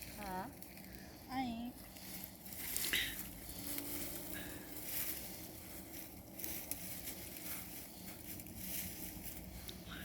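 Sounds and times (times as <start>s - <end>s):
rustling and crackling of vines: 0.0s - 10.0s.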